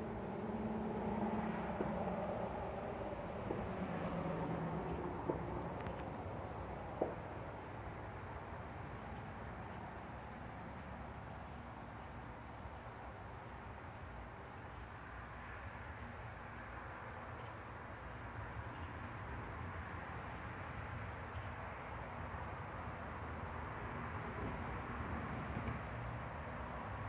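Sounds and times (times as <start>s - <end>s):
insects chirping: 0.0s - 27.0s
low outdoor background noise: 0.0s - 27.0s.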